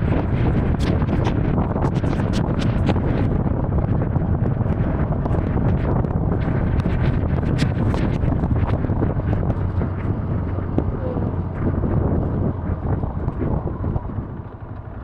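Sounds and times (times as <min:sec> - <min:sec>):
low steady hum: 0:00.0 - 0:15.0
wind buffeting microphone: 0:00.0 - 0:15.0.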